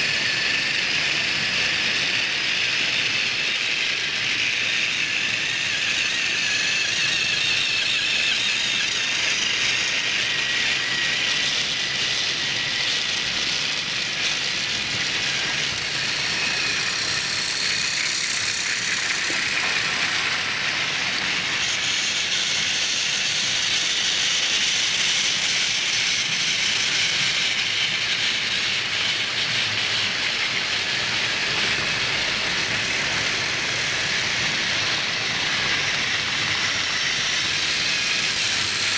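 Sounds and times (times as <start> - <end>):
toy train motor whirring: 0.0 - 38.9
small wheels rattling: 3.1 - 38.9.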